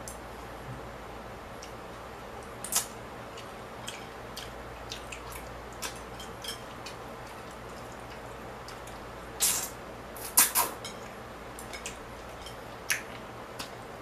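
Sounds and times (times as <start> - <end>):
steady low hum: 0.0 - 14.0
chewing and wet mouth sounds: 2.4 - 13.8.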